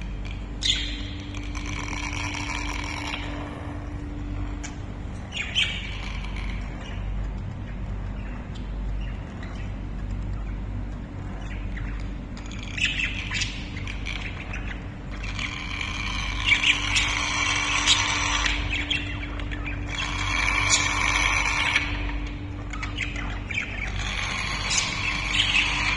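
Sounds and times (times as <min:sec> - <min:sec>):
budgerigars chattering and squawking: 0:00.0 - 0:25.9
low steady hum: 0:00.0 - 0:25.9.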